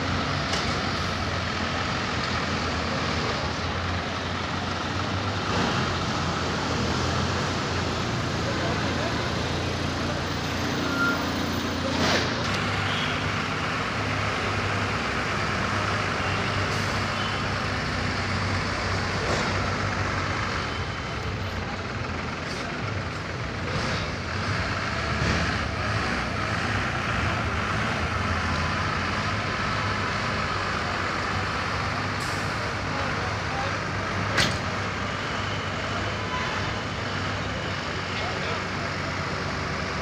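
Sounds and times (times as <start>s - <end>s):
outdoor noise: 0.0s - 40.0s
truck engine idling: 0.0s - 40.0s.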